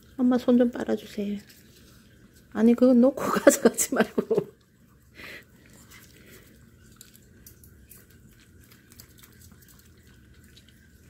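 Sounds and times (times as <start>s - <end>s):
dog licking and chewing fruit: 0.0s - 11.0s.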